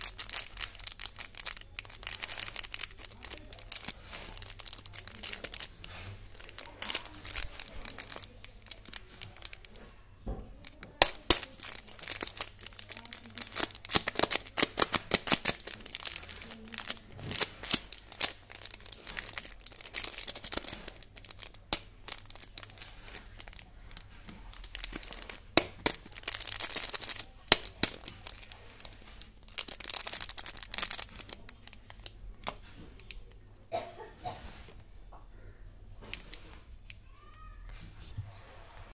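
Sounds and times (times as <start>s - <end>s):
plastic candy wrappers crinkling: 0.0s - 33.4s, 35.9s - 37.5s.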